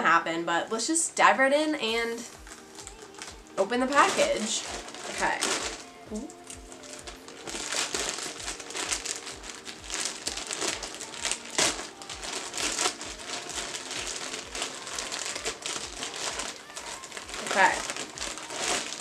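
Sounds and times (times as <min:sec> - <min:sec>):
plastic bag tearing and crinkling: 0:02.4 - 0:19.0.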